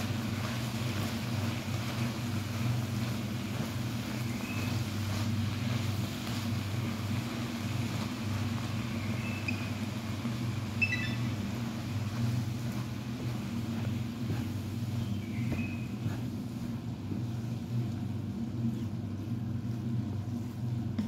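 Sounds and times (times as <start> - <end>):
spatula stirring food in wok: 0.0 - 18.2
low mechanical hum: 0.0 - 21.0.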